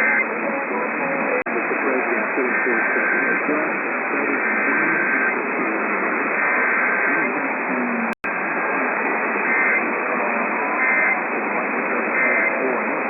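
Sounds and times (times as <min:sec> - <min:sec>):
heavy radio static: 0:00.0 - 0:13.0
warbling data bursts: 0:01.6 - 0:13.0.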